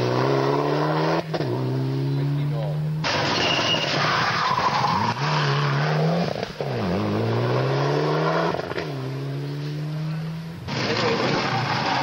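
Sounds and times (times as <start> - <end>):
rally car engine accelerating: 0.0 - 3.3, 3.9 - 12.0.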